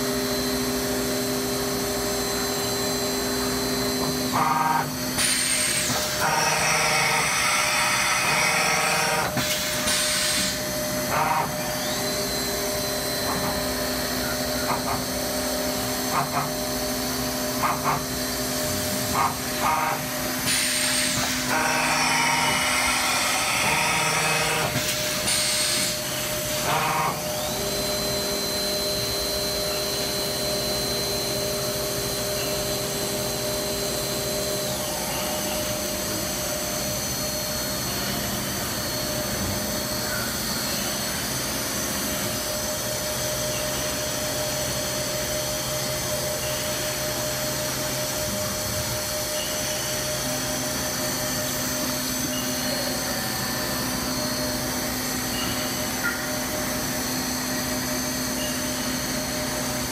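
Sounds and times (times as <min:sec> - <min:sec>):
milling machine hum: 0:00.0 - 0:59.9
spindle whine: 0:05.8 - 0:20.4, 0:21.0 - 0:59.9.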